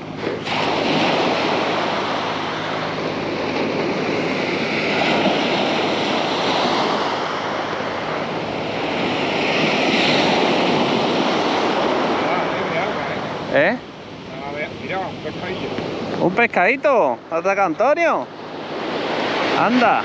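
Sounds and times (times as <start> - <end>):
waves breaking on sandy beach: 0.0 - 20.0.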